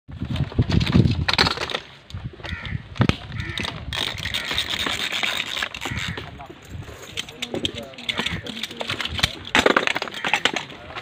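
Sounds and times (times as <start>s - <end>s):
strapping tool clicking and rattling: 0.4s - 11.0s.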